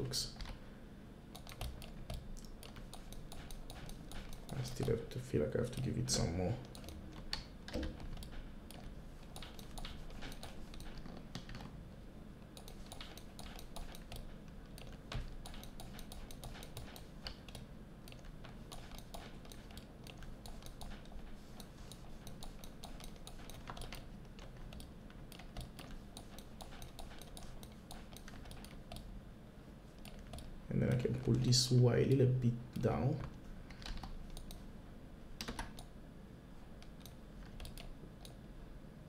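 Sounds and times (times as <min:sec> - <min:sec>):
low steady hum: 0:00.0 - 0:39.0
keyboard and mouse clicking: 0:01.3 - 0:11.7, 0:12.4 - 0:29.1, 0:30.0 - 0:31.3, 0:33.2 - 0:34.7, 0:35.4 - 0:35.9, 0:36.8 - 0:38.4.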